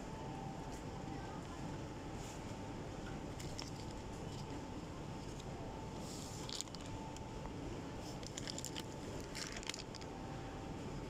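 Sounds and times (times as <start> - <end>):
faint steady whine: 0.0 - 11.0
supermarket background hum: 0.0 - 11.0.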